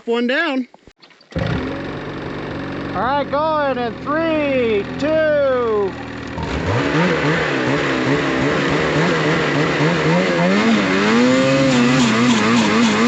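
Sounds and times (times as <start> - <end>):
snowmobile engine revving: 1.4 - 13.0.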